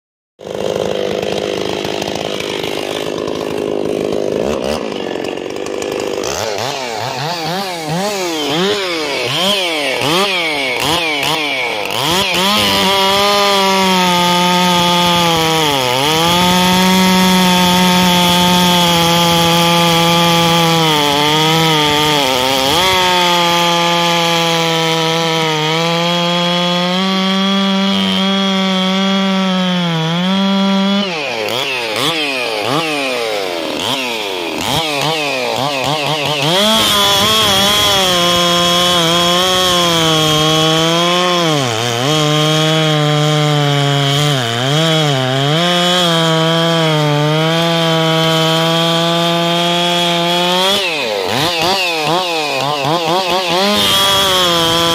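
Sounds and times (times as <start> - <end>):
chainsaw revving and cutting log: 0.4 - 54.9.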